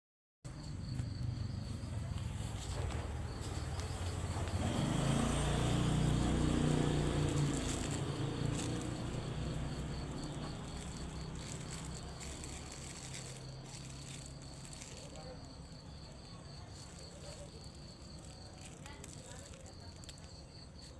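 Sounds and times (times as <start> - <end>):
insect chirping: 0.5 - 20.9.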